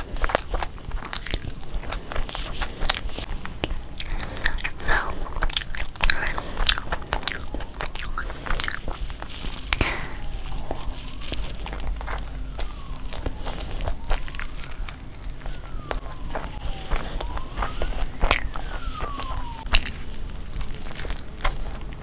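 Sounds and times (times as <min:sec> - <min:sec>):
mouth clicks and smacks: 0:00.0 - 0:22.0
person chewing: 0:00.0 - 0:22.0.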